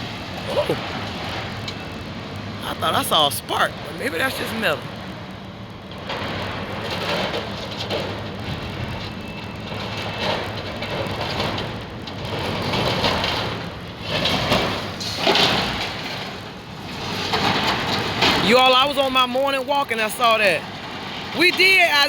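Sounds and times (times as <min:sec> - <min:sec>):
demolition machine engine running: 0:00.0 - 0:19.2
grinding and scraping debris and metal: 0:03.8 - 0:22.0.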